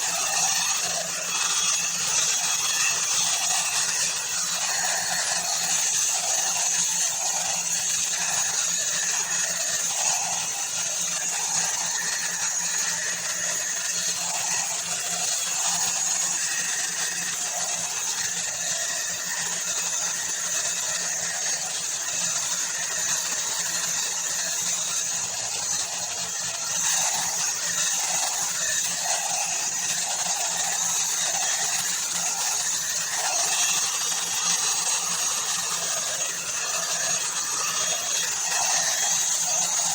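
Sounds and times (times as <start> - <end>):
hot air brush whirring: 0.0 - 39.9.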